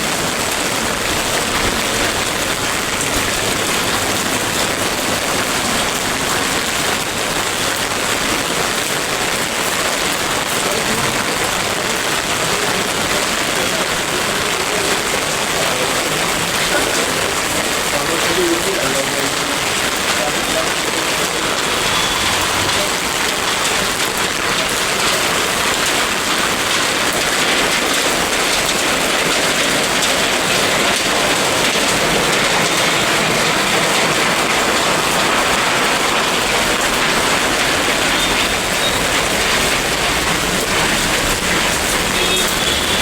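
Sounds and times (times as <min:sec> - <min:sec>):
heavy rain splashing: 0:00.0 - 0:43.0.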